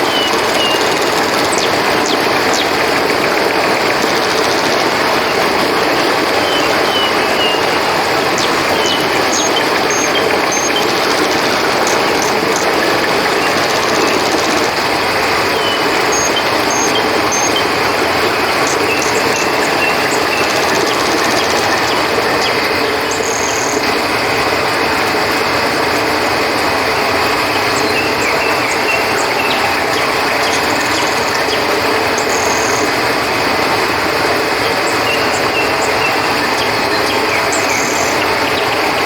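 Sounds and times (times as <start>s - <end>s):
crickets chirping: 0.0s - 39.0s
river water flowing: 0.0s - 39.0s.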